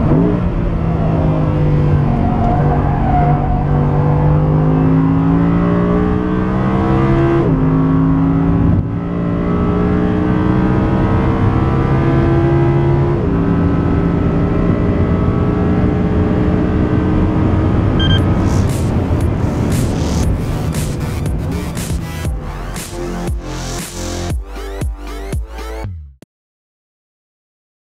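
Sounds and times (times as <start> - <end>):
car engine at full throttle: 0.0 - 24.8.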